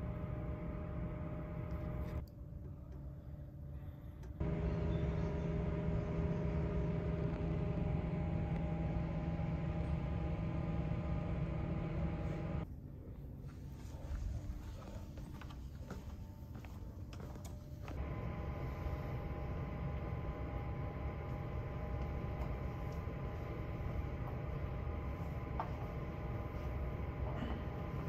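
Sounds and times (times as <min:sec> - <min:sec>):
low droning hum: 0:00.0 - 0:15.0, 0:17.9 - 0:28.0.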